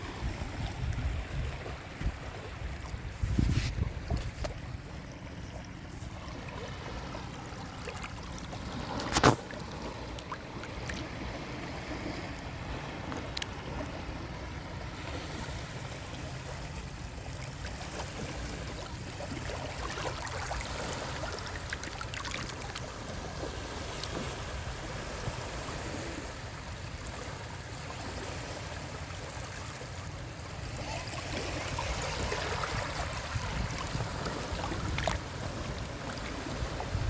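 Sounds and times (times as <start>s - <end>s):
sea waves lapping at shore: 0.0s - 37.0s.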